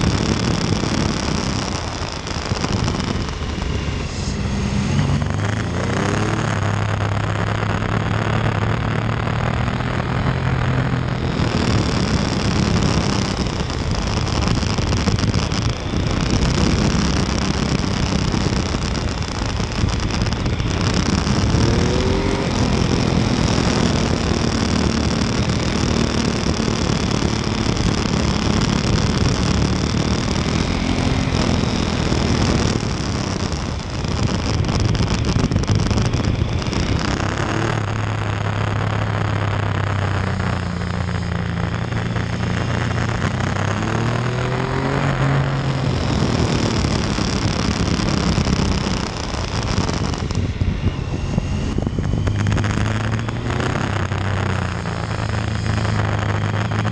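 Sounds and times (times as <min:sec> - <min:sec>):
motorcycle engine revving: 0:00.0 - 0:56.9
wind rush: 0:00.0 - 0:56.9.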